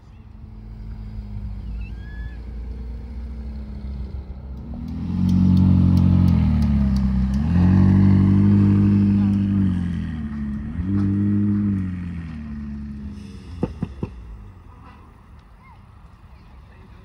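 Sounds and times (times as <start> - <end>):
car engine accelerating: 0.2 - 15.1.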